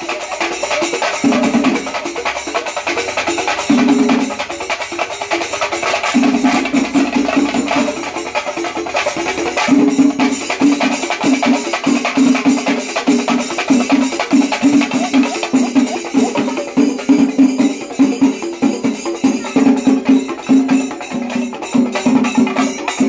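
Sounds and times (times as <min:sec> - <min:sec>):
fast drum strokes: 0:00.0 - 0:23.0
metallic jingling: 0:00.0 - 0:23.0.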